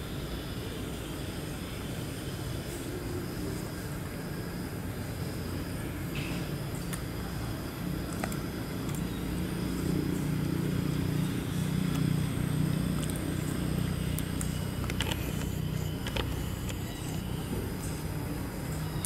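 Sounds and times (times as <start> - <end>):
low engine hum: 3.0 - 19.0.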